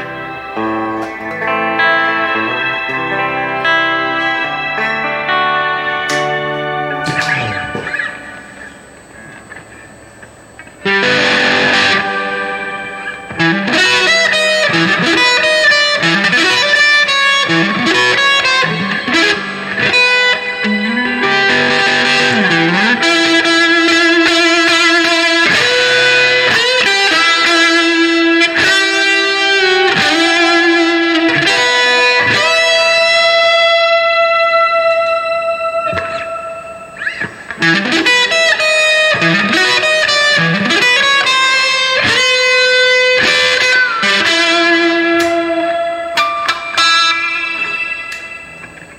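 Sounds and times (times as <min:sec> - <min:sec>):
electric guitar lead with reverb: 0:00.0 - 0:48.9.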